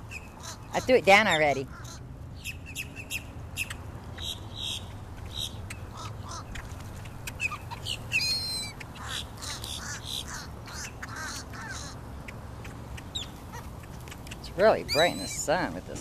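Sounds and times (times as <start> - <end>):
birds and ducks calling: 0.0 - 16.0.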